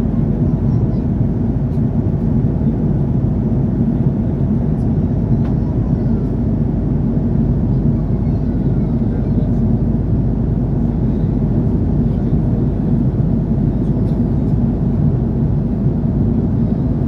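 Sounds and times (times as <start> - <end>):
airplane cabin rumble in flight: 0.0 - 17.0.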